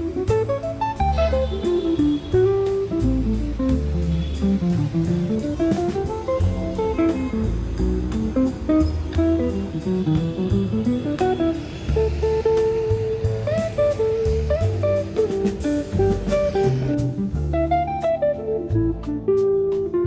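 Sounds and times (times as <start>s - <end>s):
bass line: 0.0s - 20.0s
jazzy plucked guitar melody: 0.0s - 20.0s
light percussion ticks: 0.0s - 20.0s.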